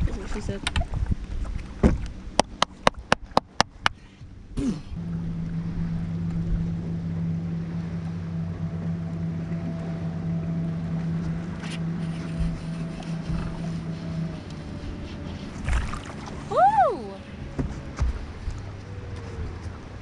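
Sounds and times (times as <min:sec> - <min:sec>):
boat motor humming: 0:00.0 - 0:20.0
water: 0:00.0 - 0:20.0
wind: 0:00.0 - 0:20.0.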